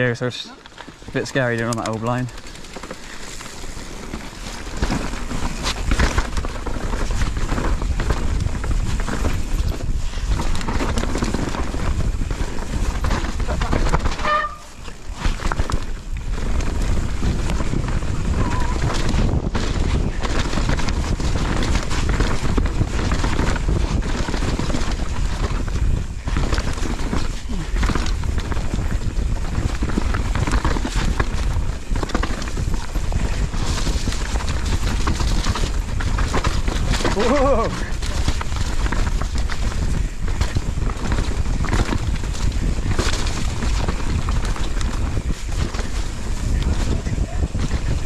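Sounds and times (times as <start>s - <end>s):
bike tyres rumbling: 0.0s - 48.0s
bike rattling knocks: 0.8s - 48.0s
wind on camera microphone: 3.1s - 48.0s.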